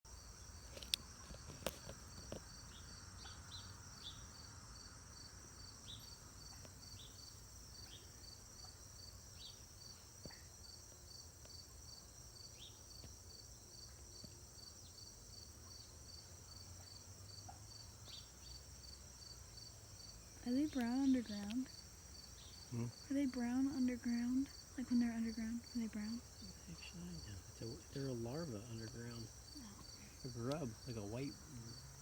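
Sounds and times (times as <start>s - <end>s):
insects trilling: 0.1s - 32.0s.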